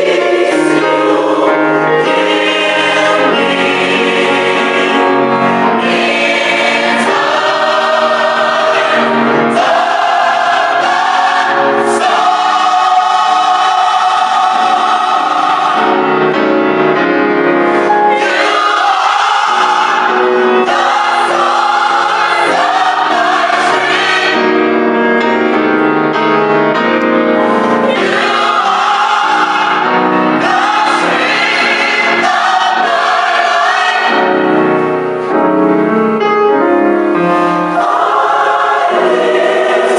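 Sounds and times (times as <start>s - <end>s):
choir singing gospel: 0.0s - 39.9s
musical accompaniment: 0.0s - 39.9s.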